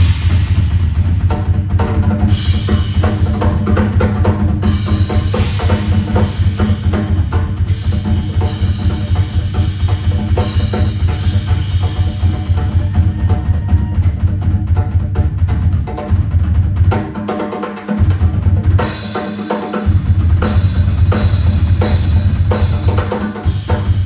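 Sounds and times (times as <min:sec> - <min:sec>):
low bass: 0:00.0 - 0:16.9, 0:19.9 - 0:23.2
bass drum and snare: 0:00.0 - 0:24.0.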